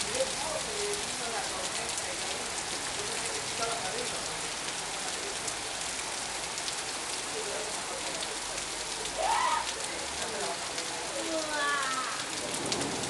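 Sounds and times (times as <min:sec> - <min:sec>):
heavy rain pouring: 0:00.0 - 0:13.0
raindrops striking surfaces: 0:00.0 - 0:13.0.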